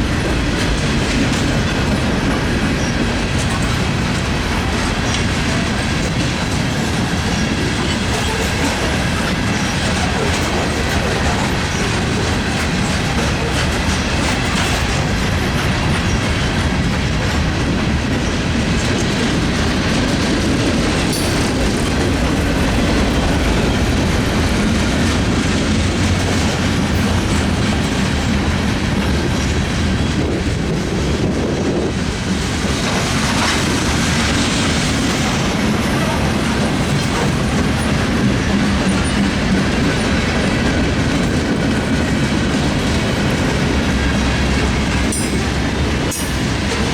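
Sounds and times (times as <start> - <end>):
freight train rumbling past: 0.0 - 46.9
wheels clicking over rail joints: 0.0 - 46.9.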